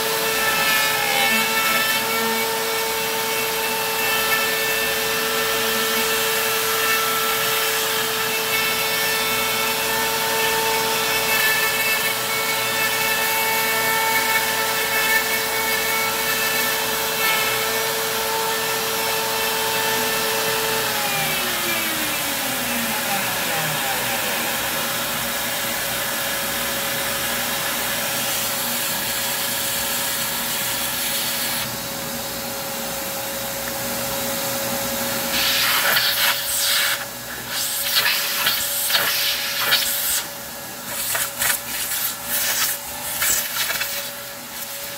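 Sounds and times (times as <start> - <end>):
router whining: 0.0 - 44.9
shop vacuum droning: 0.0 - 44.9.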